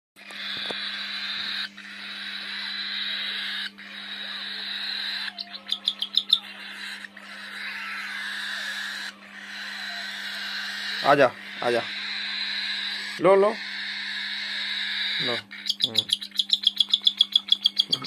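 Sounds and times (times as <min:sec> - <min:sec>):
baby parrot begging call: 0:00.2 - 0:18.0
sharp parrot chirps: 0:00.2 - 0:18.0.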